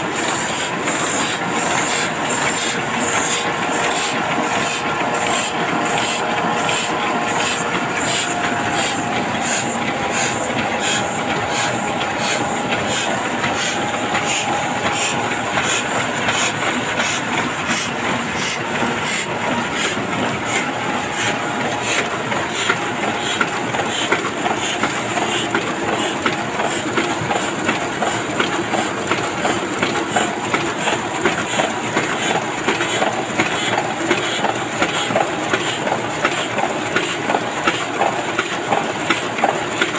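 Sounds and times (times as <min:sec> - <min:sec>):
printing press clattering: 0:00.0 - 0:39.9.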